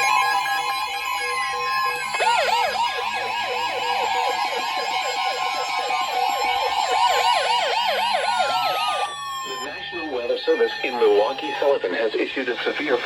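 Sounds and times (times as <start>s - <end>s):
layered alarm tones: 0.0s - 13.0s
yelping siren alarm: 0.0s - 13.0s.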